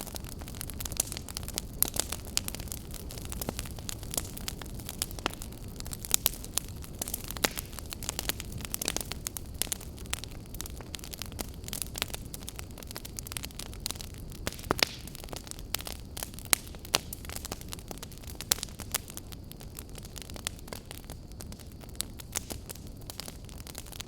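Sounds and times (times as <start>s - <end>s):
campfire crackling and popping: 0.0s - 24.0s
low rumble of flames: 0.0s - 24.0s.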